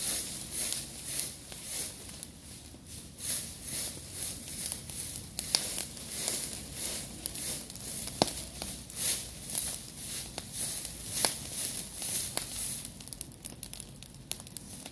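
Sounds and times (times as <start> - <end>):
burning leaves crackling: 0.0 - 14.9
fire popping: 0.0 - 14.9.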